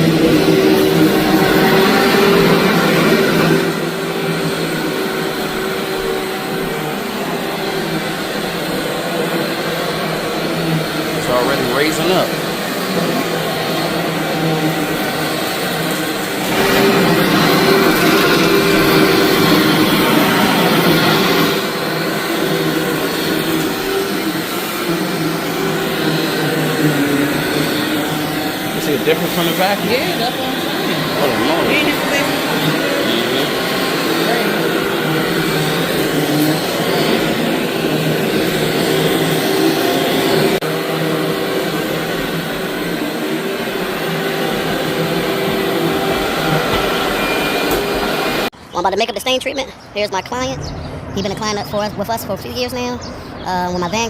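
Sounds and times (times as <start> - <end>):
vacuum cleaner running: 0.0 - 48.6.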